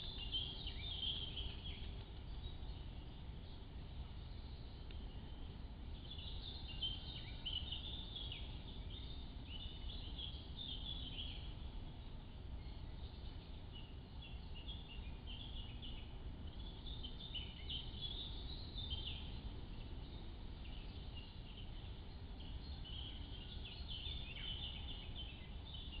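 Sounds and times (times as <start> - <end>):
songbirds chirping: 0.0 - 26.0
steady low rumble: 0.0 - 26.0.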